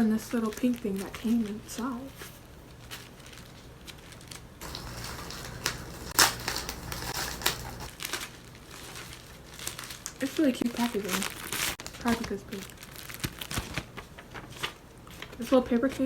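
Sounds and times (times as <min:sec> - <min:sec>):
packaging crinkling: 0:00.2 - 0:15.4.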